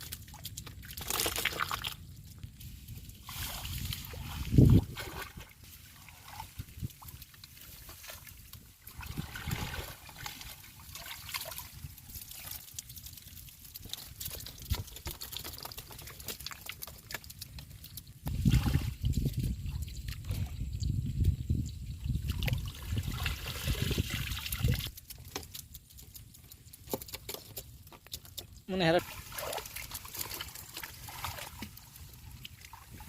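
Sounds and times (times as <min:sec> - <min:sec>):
water sloshing: 0:03.2 - 0:20.5, 0:22.3 - 0:33.0
water trickling: 0:03.2 - 0:33.0.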